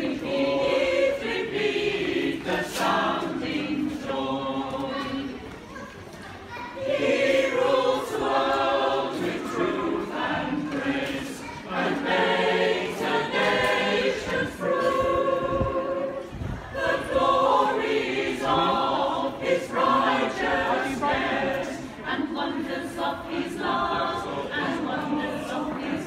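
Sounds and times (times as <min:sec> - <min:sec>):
choir singing a cappella: 0:00.0 - 0:05.4, 0:06.8 - 0:26.0.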